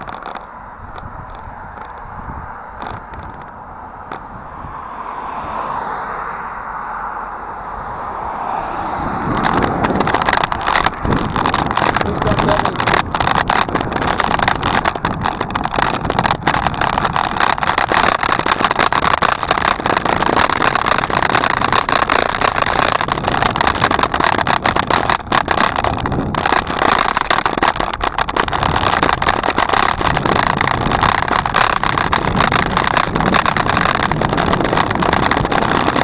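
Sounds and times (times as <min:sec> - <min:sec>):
rolling tyre noise: 0:00.0 - 0:36.0
wind: 0:00.0 - 0:36.0.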